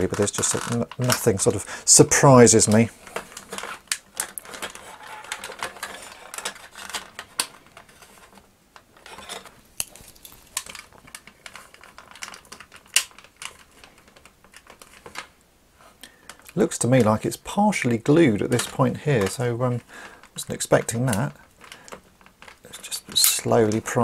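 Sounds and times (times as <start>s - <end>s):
plastic parts clicking and rattling: 0.0s - 24.0s.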